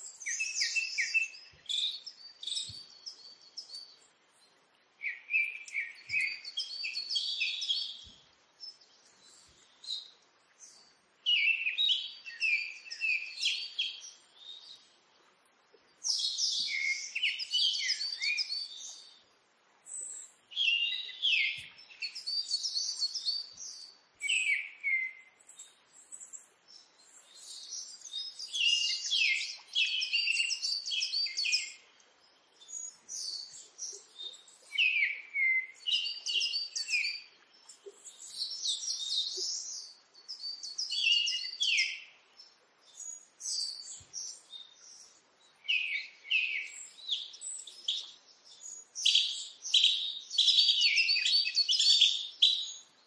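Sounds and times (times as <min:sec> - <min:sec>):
small bird chirping: 0:00.0 - 0:04.1, 0:05.0 - 0:19.2, 0:19.8 - 0:53.0.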